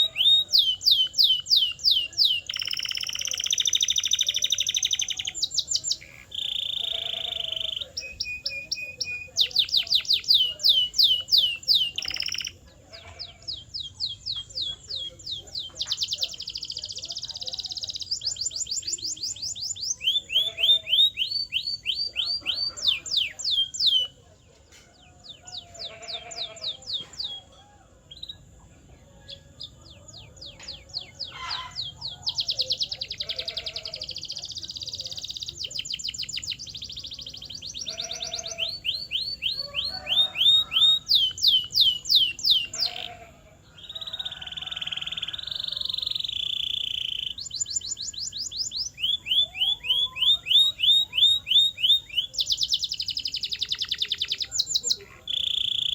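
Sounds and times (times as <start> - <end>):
canary singing fast trills: 0.0 - 55.9.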